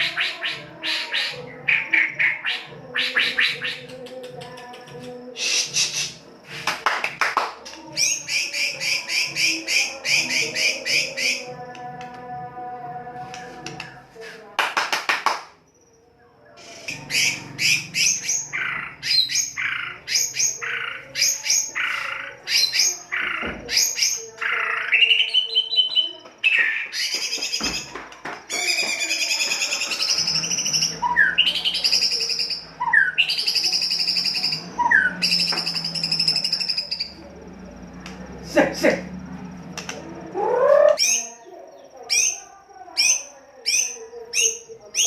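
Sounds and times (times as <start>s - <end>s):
bird singing harsh song: 0.0s - 6.2s, 7.6s - 12.2s, 15.7s - 38.5s, 39.1s - 45.0s.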